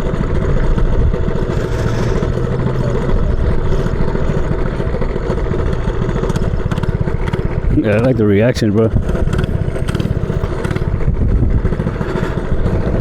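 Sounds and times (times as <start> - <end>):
mini bike engine idling: 0.0 - 13.0.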